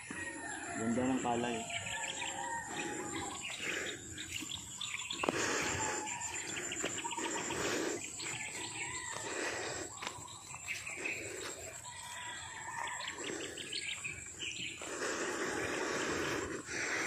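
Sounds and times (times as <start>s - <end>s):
birds chirping: 0.0s - 17.0s
insects trilling: 0.0s - 17.0s.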